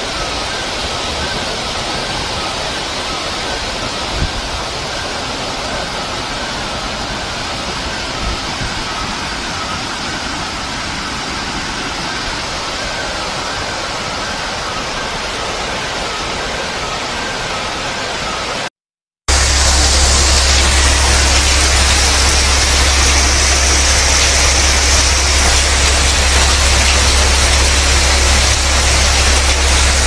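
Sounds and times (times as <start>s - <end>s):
faint wavering high tone: 0.0s - 18.7s, 19.3s - 30.0s
floodwater rushing: 0.0s - 18.7s, 19.3s - 30.0s
heavy rain: 0.0s - 18.7s, 19.3s - 30.0s.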